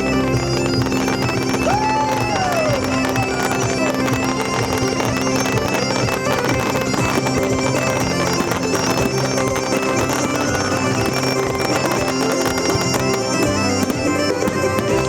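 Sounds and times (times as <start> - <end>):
bagpipe drones: 0.0 - 15.0
bagpipe melody: 0.0 - 15.0.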